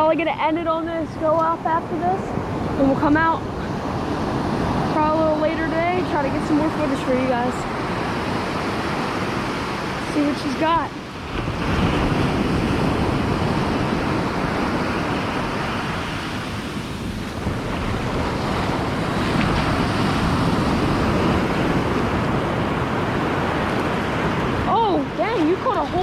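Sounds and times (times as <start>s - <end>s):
ocean surf washing on beach: 0.0s - 26.0s
wind buffeting microphone: 0.0s - 26.0s.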